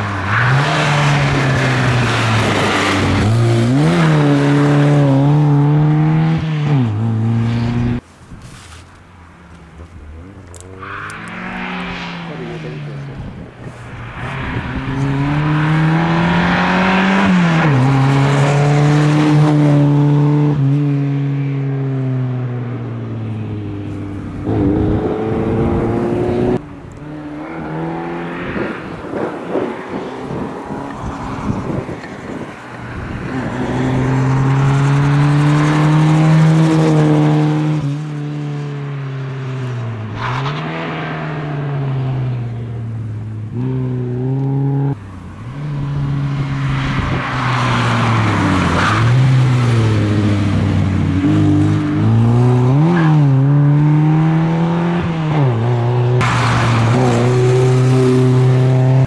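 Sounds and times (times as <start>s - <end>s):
rally car engine revving: 0.0s - 8.0s, 9.8s - 21.1s, 24.4s - 31.9s, 33.3s - 38.1s, 40.1s - 59.0s.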